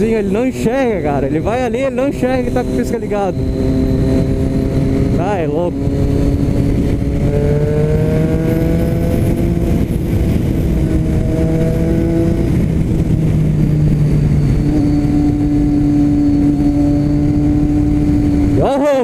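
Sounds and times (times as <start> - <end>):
motorcycle engine accelerating: 0.0 - 19.0
steady low rush: 0.0 - 19.0.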